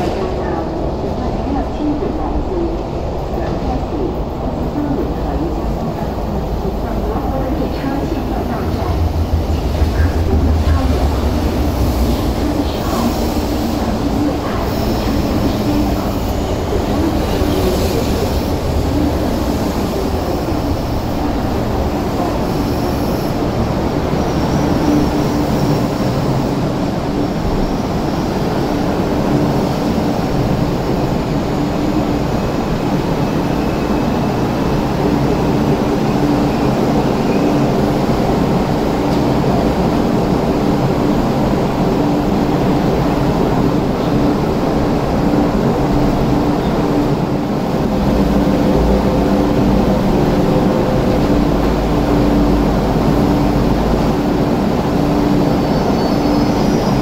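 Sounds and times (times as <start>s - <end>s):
train motors and wheels rumbling: 0.0s - 57.0s.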